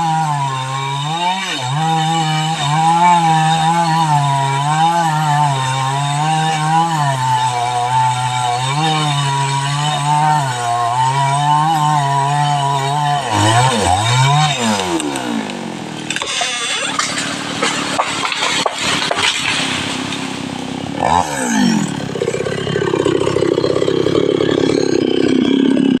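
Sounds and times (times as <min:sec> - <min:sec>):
chainsaw cutting tree: 0:00.0 - 0:26.0
wood cracking: 0:00.0 - 0:26.0.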